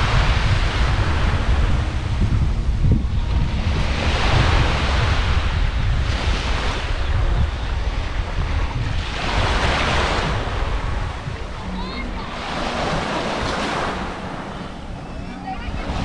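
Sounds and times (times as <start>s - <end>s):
sea waves washing on beach: 0.0s - 16.0s
wind buffeting microphone: 0.0s - 16.0s.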